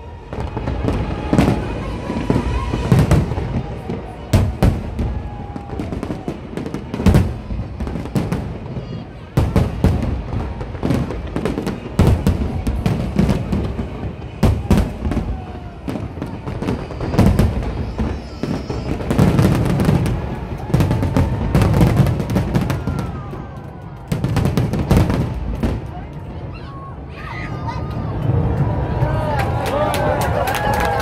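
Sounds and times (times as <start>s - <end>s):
fireworks bursting with sharp bangs: 0.0s - 27.1s.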